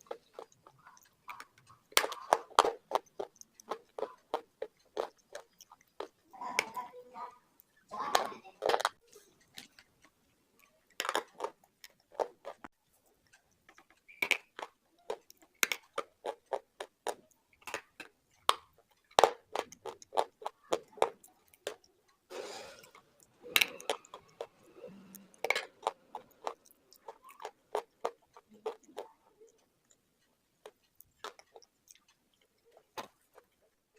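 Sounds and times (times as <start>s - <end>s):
pencil being chewed: 0.0s - 7.0s, 8.5s - 33.9s.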